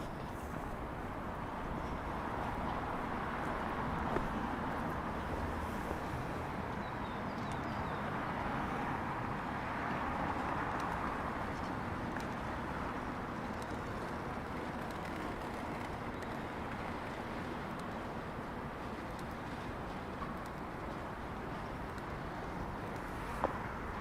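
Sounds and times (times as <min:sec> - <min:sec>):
rainy street ambience: 0:00.1 - 0:24.0.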